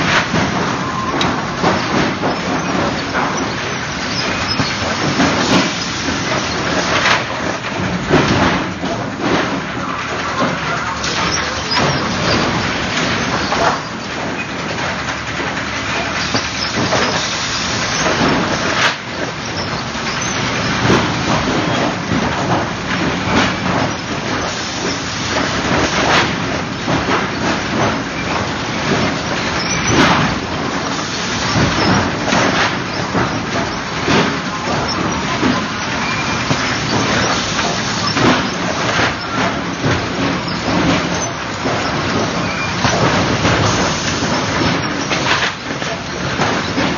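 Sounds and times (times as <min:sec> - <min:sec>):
boards clacking onto stack: 0:00.0 - 0:46.9
loud machinery din: 0:00.0 - 0:46.9.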